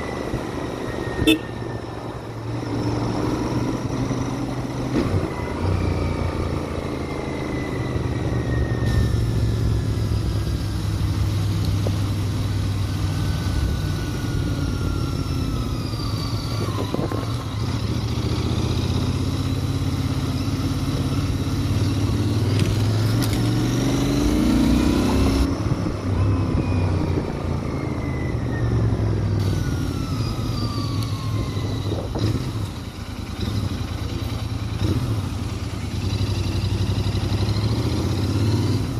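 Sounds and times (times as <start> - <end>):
motorcycle engine droning: 0.0 - 38.9.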